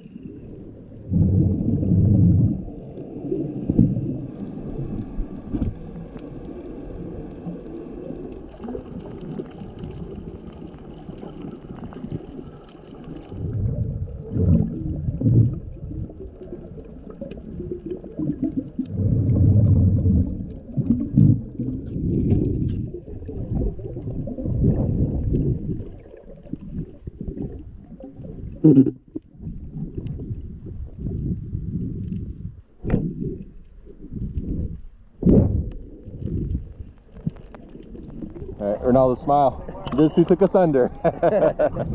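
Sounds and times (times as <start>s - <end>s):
underwater rumbling and gurgling: 0.0s - 41.9s.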